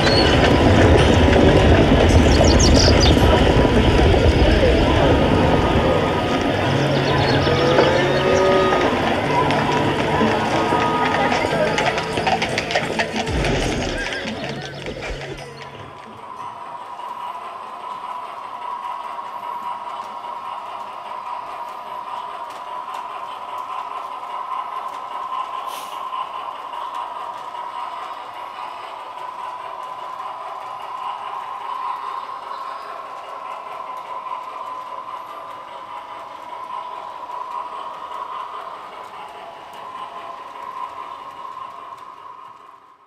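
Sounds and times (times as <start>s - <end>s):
model train running hum: 0.0s - 43.0s.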